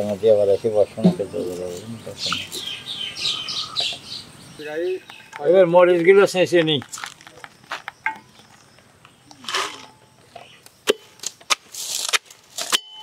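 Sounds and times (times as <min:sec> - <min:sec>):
chillies rustling: 0:00.0 - 0:02.8, 0:04.9 - 0:12.8.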